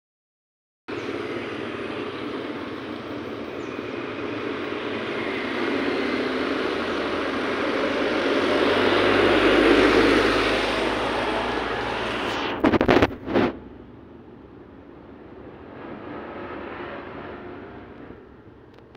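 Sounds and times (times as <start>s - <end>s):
passing vehicle engine: 0.9s - 18.9s.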